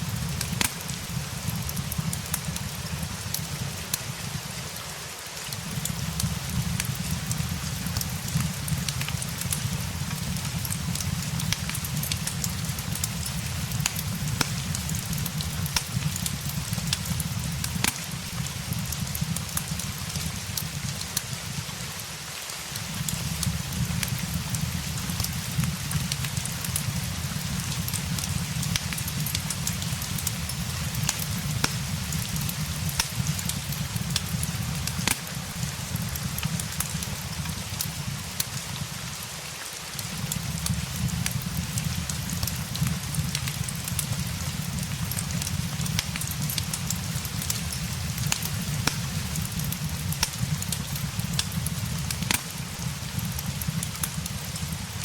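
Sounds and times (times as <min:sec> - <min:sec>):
crackling fireplace: 0:00.0 - 0:55.0
steady rain hiss: 0:00.0 - 0:55.0.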